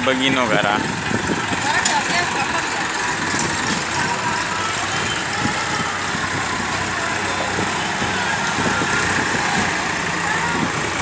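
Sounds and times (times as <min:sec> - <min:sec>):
tractors driving past: 0:00.0 - 0:11.0.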